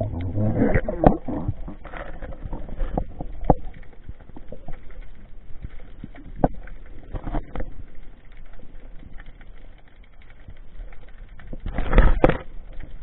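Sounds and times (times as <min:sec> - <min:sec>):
muffled underwater rumble: 0:00.0 - 0:13.0
sharp underwater clicks and knocks: 0:00.0 - 0:13.0.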